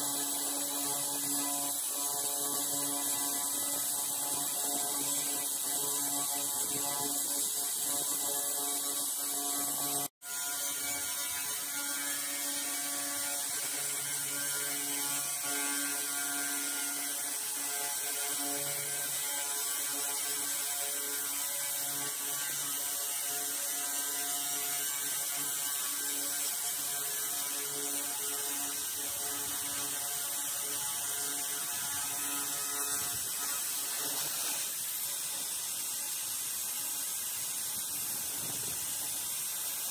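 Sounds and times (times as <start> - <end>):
laser cleaner buzzing hiss: 0.0 - 39.9.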